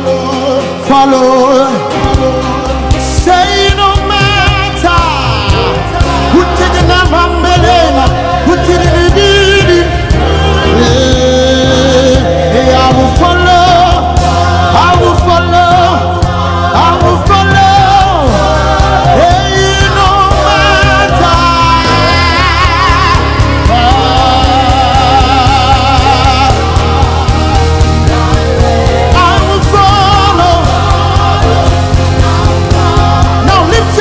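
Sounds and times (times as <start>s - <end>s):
band with bass and beat: 0.0s - 34.0s
voices singing with vibrato: 0.0s - 34.0s.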